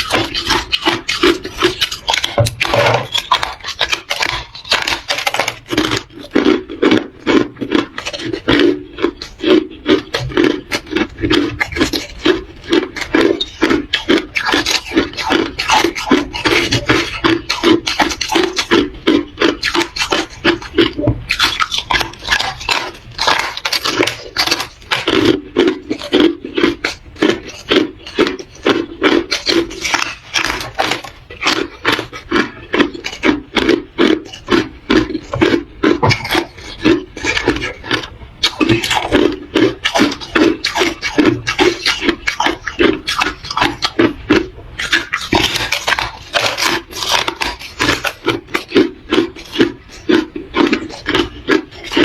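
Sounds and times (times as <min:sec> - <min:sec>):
ice crunching between teeth: 0:00.0 - 0:52.0.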